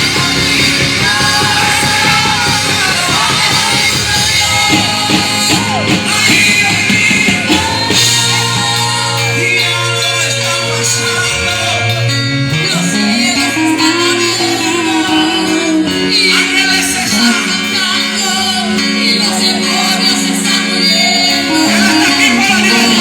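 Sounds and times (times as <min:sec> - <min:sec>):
bass line: 0:00.0 - 0:23.0
guitar: 0:00.0 - 0:23.0
person singing: 0:00.0 - 0:23.0.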